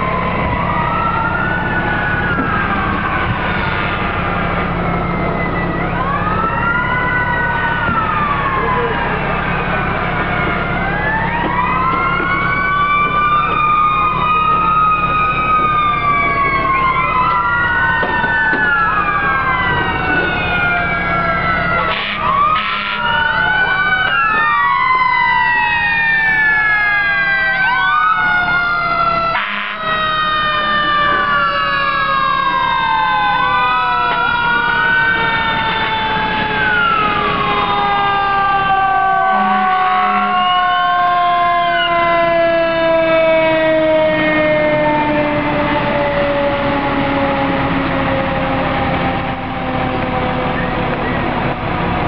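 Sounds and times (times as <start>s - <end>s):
emergency sirens wailing: 0.0s - 52.0s.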